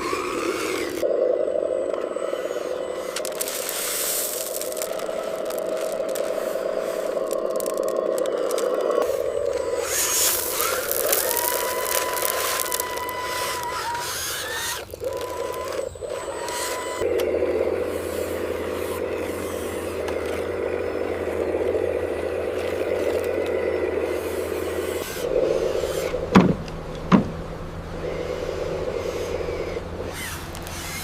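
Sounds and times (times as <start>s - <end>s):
loud falling squeals: 0.0s - 26.3s
construction machine engine running: 0.0s - 31.0s.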